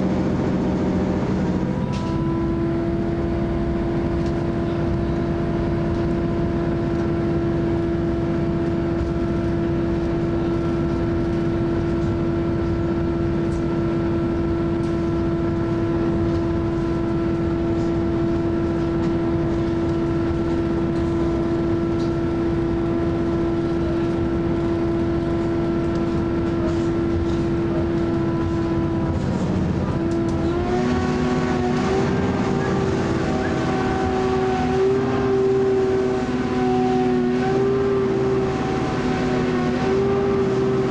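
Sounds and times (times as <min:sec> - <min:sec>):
constant rumble: 0:00.0 - 0:40.9
railcar engine whine: 0:00.0 - 0:40.9.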